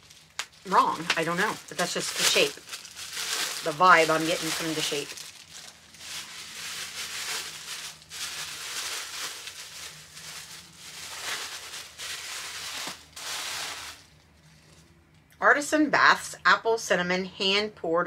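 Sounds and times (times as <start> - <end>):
tissue paper rustling and crinkling: 0.0 - 14.8.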